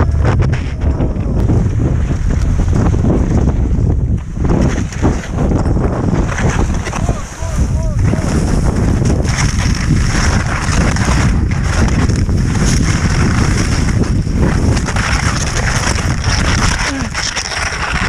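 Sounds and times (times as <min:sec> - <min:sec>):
wind buffeting microphone: 0:00.0 - 0:18.0
skis sliding over snow: 0:00.2 - 0:18.0.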